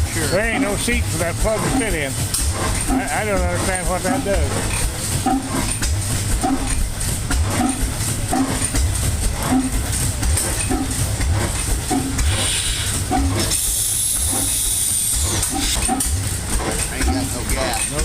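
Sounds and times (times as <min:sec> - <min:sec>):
stationary engine chugging: 0:00.0 - 0:18.0.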